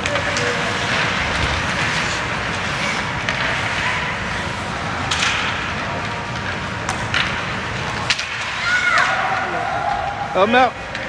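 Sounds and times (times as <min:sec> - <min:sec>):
hockey sticks and puck clacking: 0:00.0 - 0:11.0.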